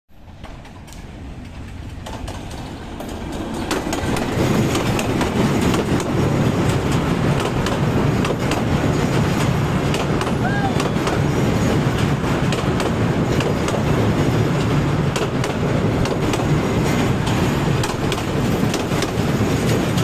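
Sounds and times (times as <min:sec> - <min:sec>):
train rumbling across bridge: 0:00.1 - 0:20.0
wheels clicking on track: 0:00.2 - 0:20.0.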